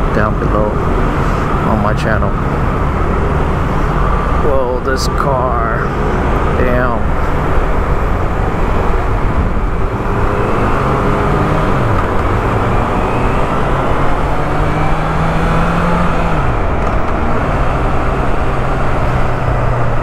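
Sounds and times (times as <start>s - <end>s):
heavy low rumble: 0.0s - 20.0s.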